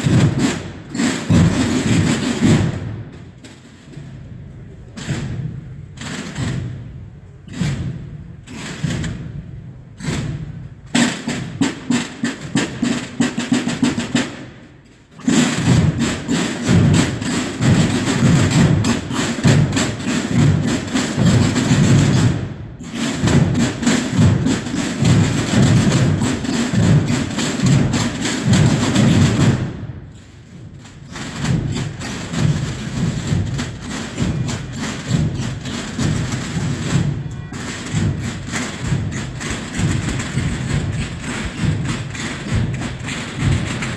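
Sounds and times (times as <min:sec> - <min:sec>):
drum corps beating rapid rhythm: 0:00.0 - 0:43.9.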